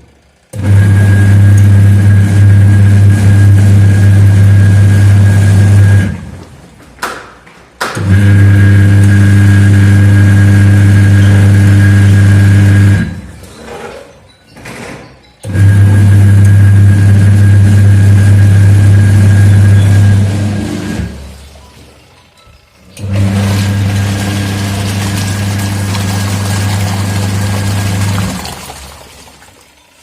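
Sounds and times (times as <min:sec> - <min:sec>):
washing machine motor humming: 0:00.0 - 0:06.8, 0:08.0 - 0:13.5, 0:15.4 - 0:21.9, 0:22.7 - 0:30.0.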